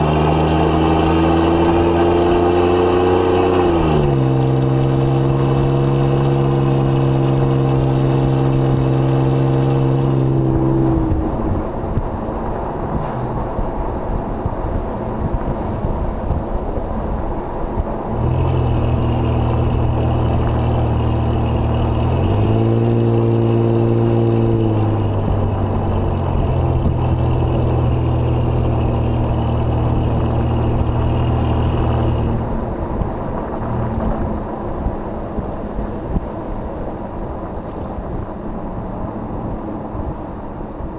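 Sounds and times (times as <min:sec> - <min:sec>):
car exhaust droning: 0:00.0 - 0:40.9
road and wind noise: 0:00.0 - 0:40.9.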